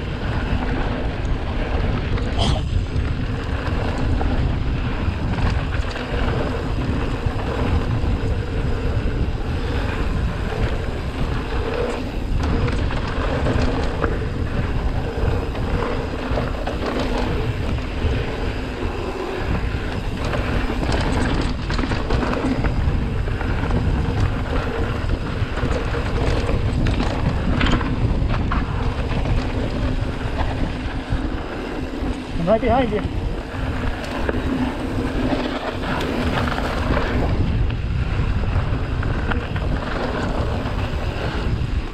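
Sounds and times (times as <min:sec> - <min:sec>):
bike clicks and rattles: 0:00.0 - 0:41.9
tyres rumbling on dirt: 0:00.0 - 0:41.9
wind on microphone: 0:00.0 - 0:41.9.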